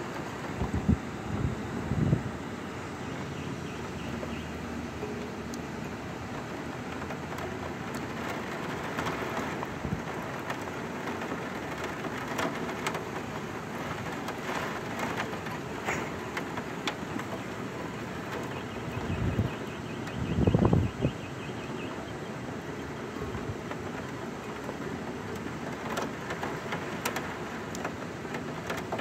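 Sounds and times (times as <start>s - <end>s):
raindrops ticking on surfaces: 0.0s - 1.8s, 2.4s - 29.0s
rain hissing: 0.0s - 29.0s.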